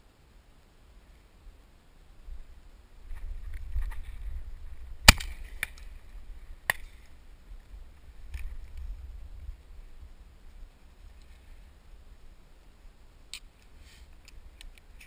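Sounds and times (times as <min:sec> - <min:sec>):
wind rumbling on microphone: 0:01.4 - 0:15.0.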